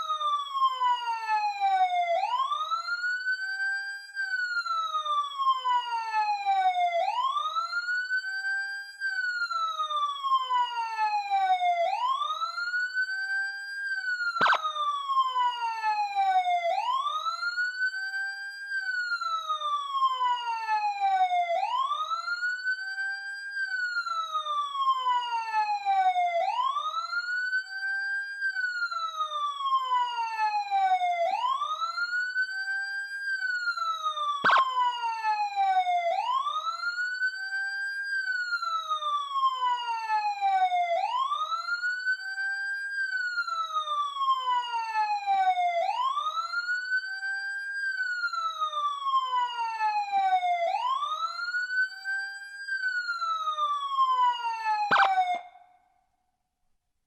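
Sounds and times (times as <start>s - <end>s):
police siren wailing: 0.0s - 55.8s.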